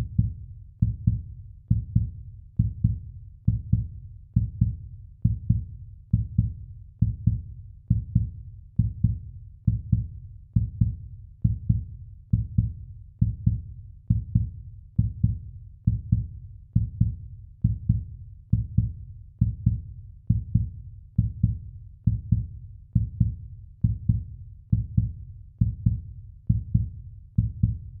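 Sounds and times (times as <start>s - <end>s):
heartbeat thumps: 0.0s - 28.0s.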